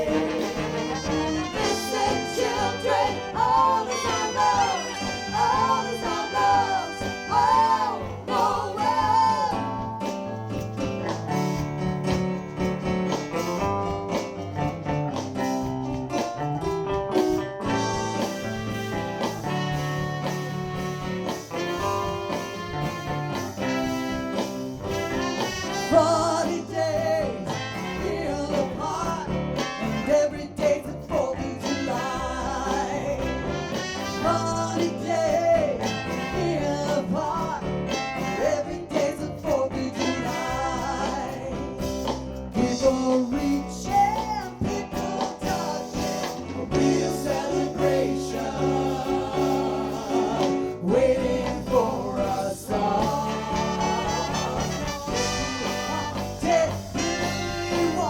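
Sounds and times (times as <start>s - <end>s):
horns: 0.0s - 9.4s, 17.6s - 30.8s, 31.6s - 43.9s, 44.6s - 58.0s
electric guitar: 0.0s - 58.0s
soul band playing live: 0.0s - 58.0s.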